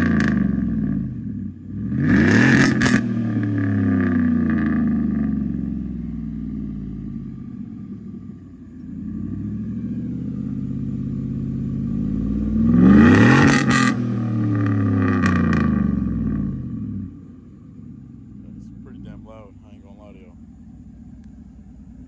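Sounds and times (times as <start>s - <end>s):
loud truck engine revving and idling: 0.0s - 7.7s, 8.9s - 17.2s, 18.2s - 20.4s.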